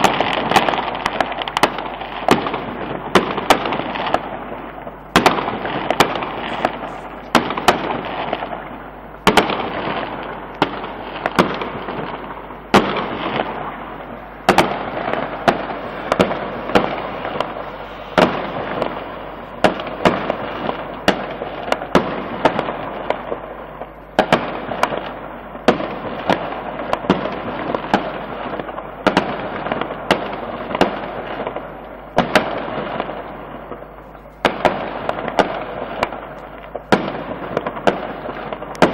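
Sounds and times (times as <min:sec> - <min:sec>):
fireworks bangs with crackle: 0:00.0 - 0:38.9.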